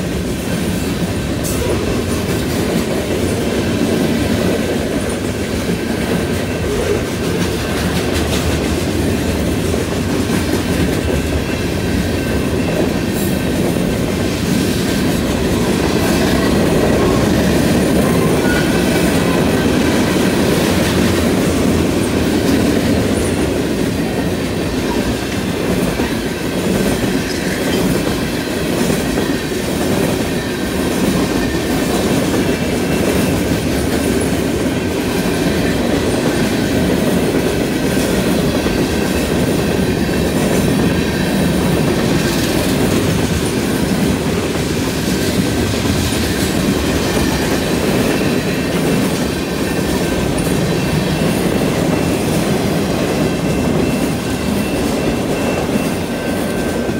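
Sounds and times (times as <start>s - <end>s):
train wheels clattering on track: 0.0s - 56.9s.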